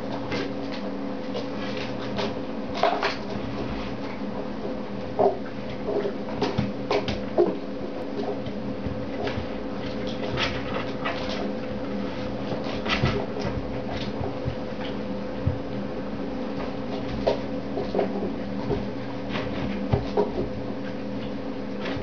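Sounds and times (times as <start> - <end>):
puppies scuffling: 0.0 - 22.0
steady low hum: 0.0 - 22.0.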